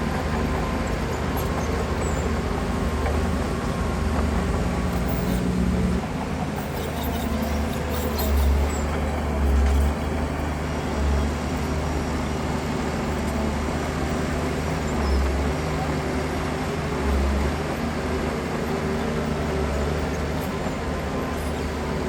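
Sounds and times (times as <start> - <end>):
heavy diesel engines droning: 0.0 - 22.0.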